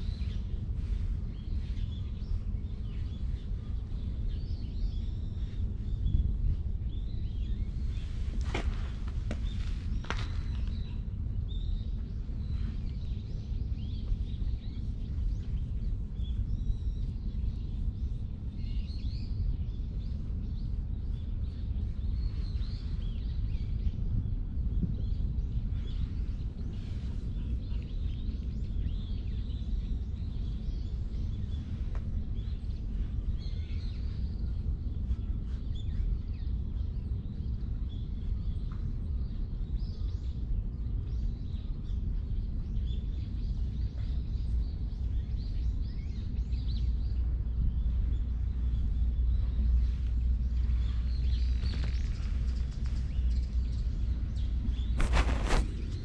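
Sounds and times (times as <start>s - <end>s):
small birds chirping: 0.0s - 56.0s
steady low rumble: 0.0s - 56.0s.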